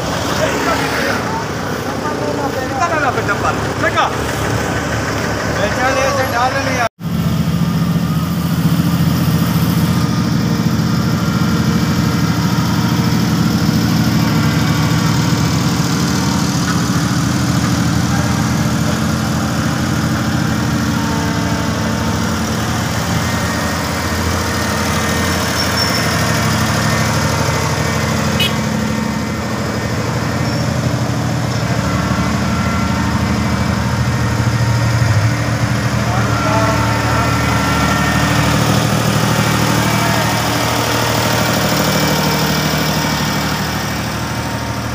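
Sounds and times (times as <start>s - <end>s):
road roller engine running: 0.0s - 44.9s.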